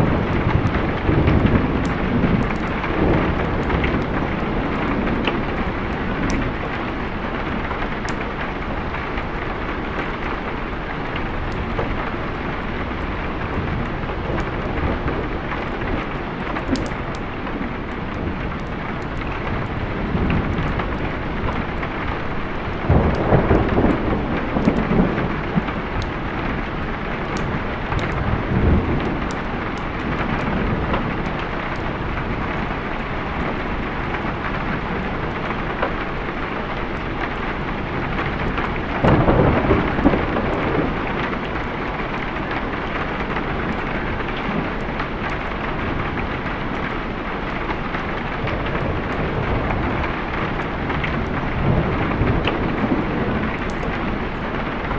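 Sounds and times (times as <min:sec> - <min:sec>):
steady rain: 0:00.0 - 0:54.9
thunder rumbling: 0:00.0 - 0:54.9.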